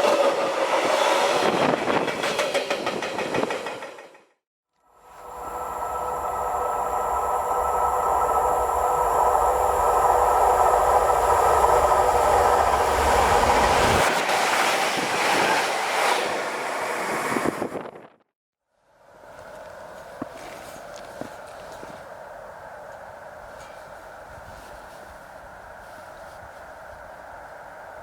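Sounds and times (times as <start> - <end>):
electric train passing: 0.0 - 17.8, 18.8 - 28.0.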